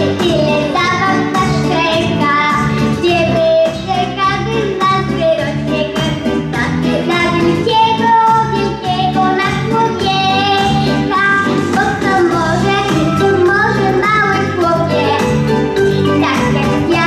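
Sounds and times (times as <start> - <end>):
boy singing into microphone: 0.0 - 15.3, 16.1 - 17.0
instrumental music: 0.0 - 17.0.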